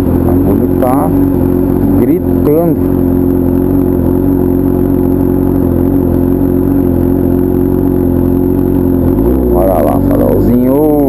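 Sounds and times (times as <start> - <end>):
motorcycle exhaust screaming: 0.0 - 11.0.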